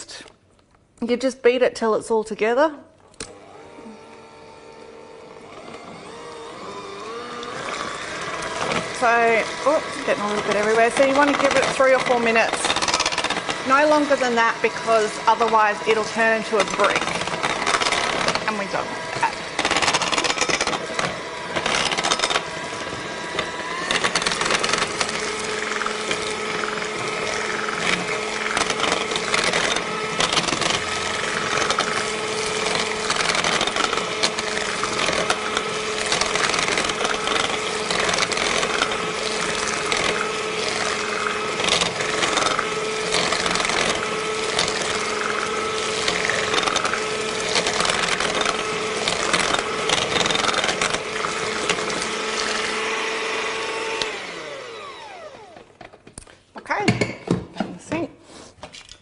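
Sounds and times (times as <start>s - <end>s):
electric hand mixer running: 3.2s - 56.0s.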